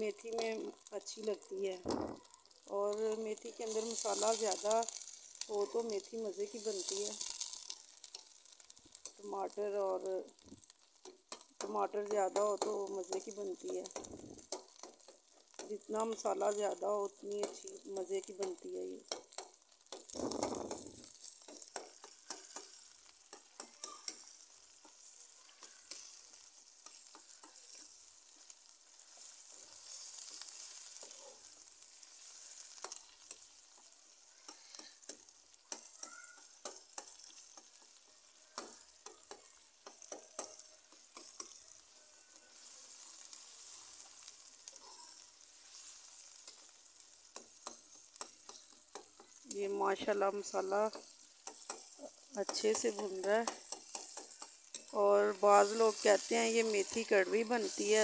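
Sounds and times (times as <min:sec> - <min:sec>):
masala sizzling in oil: 0:00.0 - 0:58.0.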